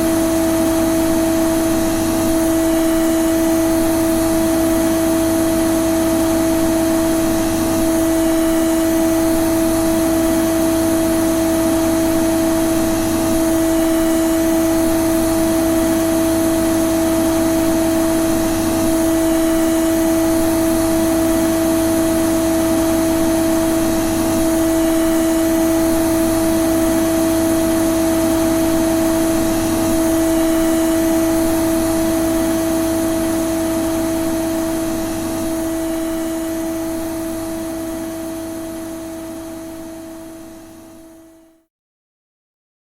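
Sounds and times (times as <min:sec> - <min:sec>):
vacuum cleaner running: 0:00.0 - 0:41.6.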